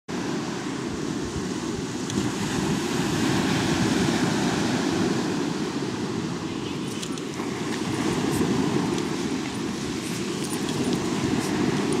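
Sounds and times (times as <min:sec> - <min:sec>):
wind buffeting microphone: 0:00.1 - 0:12.0.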